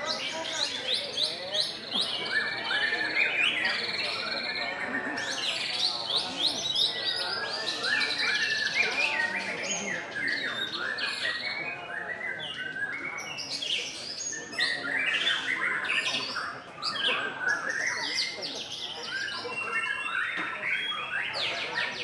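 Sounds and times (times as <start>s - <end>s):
many songbirds singing: 0.0s - 22.0s
bird whistling and chattering song: 0.1s - 22.0s.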